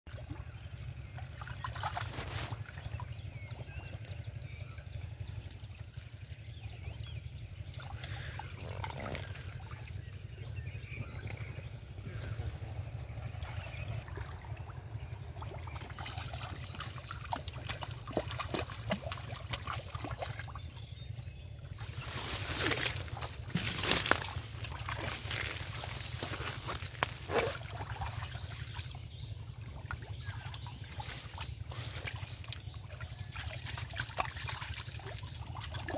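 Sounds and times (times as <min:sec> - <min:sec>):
hands sloshing in muddy water: 0:00.1 - 0:04.6, 0:07.6 - 0:35.9
steady low rumble: 0:00.1 - 0:35.9.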